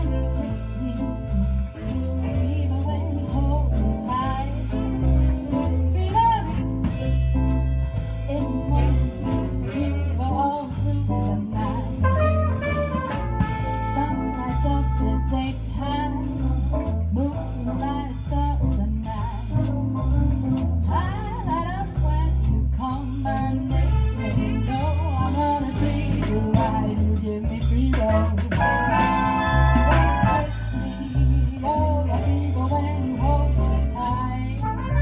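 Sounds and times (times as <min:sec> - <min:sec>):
brass horns: 0:00.0 - 0:18.2, 0:23.0 - 0:26.9, 0:27.9 - 0:35.0
jazz band playing: 0:00.0 - 0:35.0
person singing: 0:00.0 - 0:35.0
plucked upright bass: 0:00.0 - 0:35.0.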